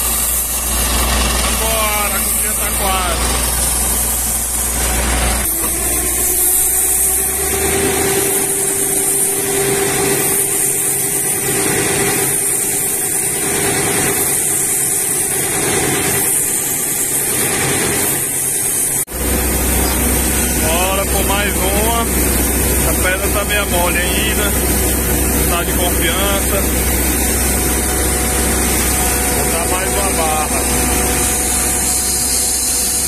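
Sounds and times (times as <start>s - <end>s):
drilling rig engine running: 0.0s - 33.0s
loud hiss of water spray: 0.0s - 33.0s.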